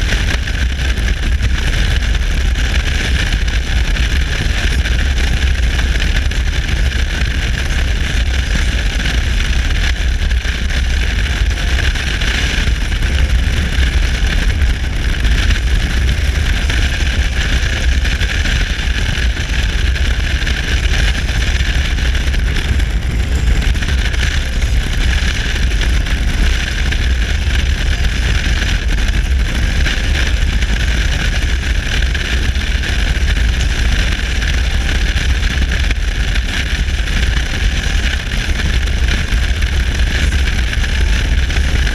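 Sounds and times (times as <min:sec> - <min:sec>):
motorcycle engine drone: 0:00.0 - 0:41.9
wind and road noise: 0:00.0 - 0:41.9
wind buffeting microphone: 0:00.0 - 0:41.9.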